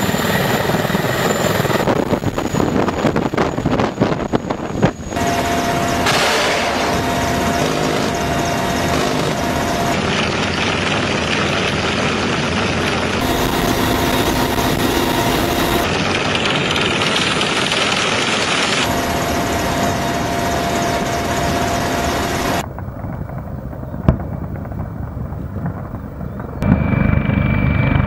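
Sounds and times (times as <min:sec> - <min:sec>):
helicopter engine and rotor noise: 0:00.0 - 0:22.7, 0:25.8 - 0:28.0
helicopter rotor beats: 0:00.0 - 0:28.0.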